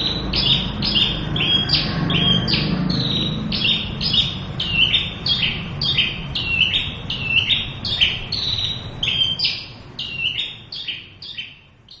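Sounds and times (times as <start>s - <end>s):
bush lark singing: 0.0s - 12.0s.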